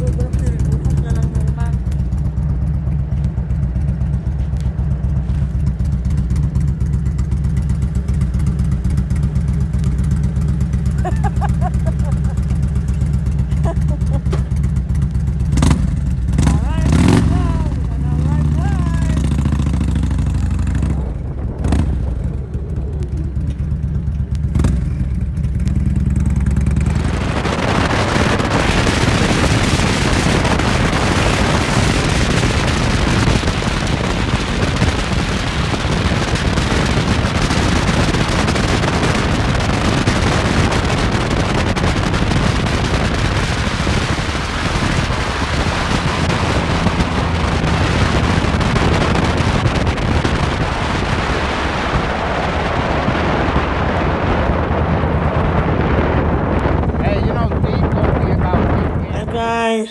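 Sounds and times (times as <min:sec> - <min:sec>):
motorcycle engine humming: 0:00.0 - 0:59.9
wind noise on microphone: 0:00.0 - 0:59.9.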